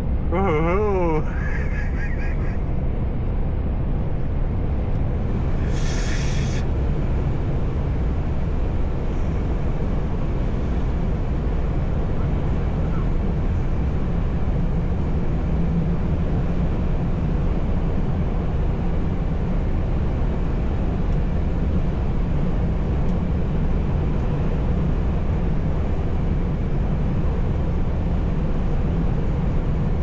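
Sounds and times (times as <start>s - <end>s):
diesel truck engine drone: 0.0s - 30.0s
road noise: 0.0s - 30.0s.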